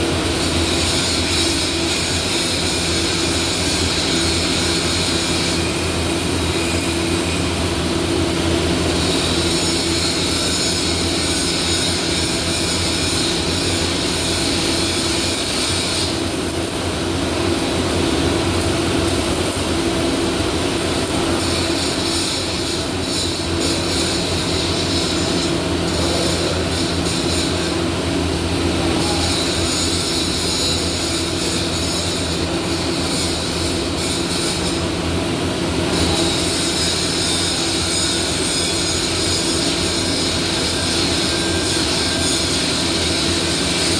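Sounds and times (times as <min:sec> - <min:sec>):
welding equipment hum and hiss: 0:00.0 - 0:43.9.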